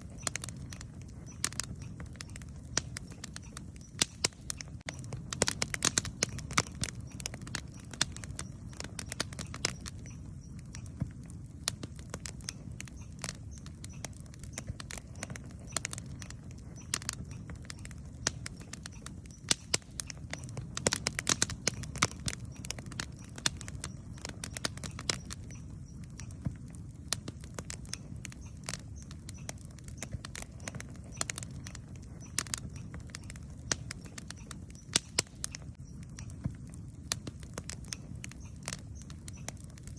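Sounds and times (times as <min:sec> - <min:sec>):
campfire crackling and popping: 0:00.0 - 0:39.9
low rumble of fire: 0:00.0 - 0:39.9.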